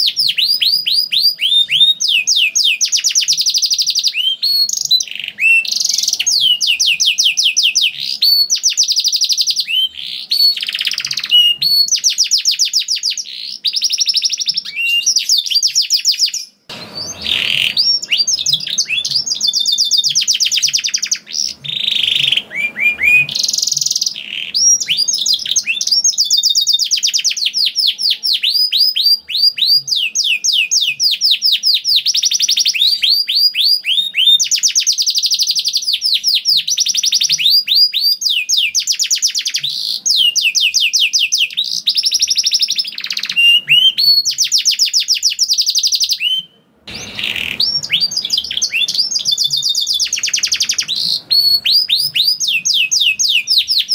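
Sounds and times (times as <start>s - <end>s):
canary singing in rapid trills: 0.0s - 53.9s.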